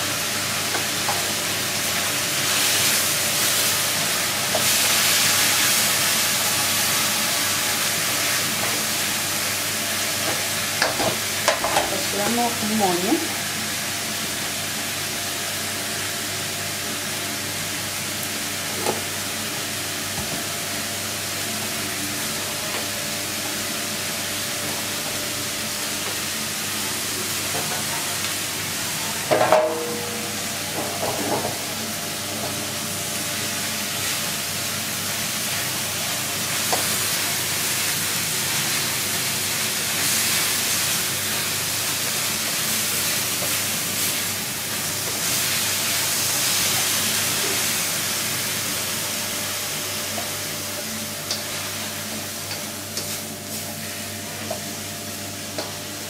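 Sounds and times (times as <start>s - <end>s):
greens sizzling in a wok: 0.0s - 56.0s.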